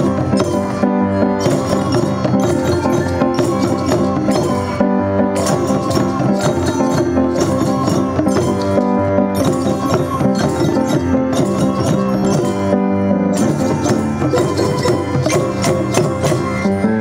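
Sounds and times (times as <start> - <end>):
hand drums and percussion: 0.0 - 17.0
melodic instruments: 0.0 - 17.0.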